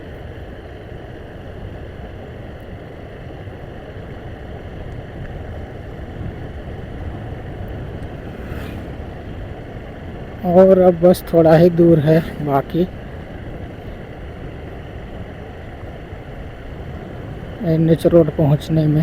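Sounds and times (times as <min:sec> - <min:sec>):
motorcycle running: 0:00.0 - 0:19.0
wind rushing over microphone: 0:00.0 - 0:19.0.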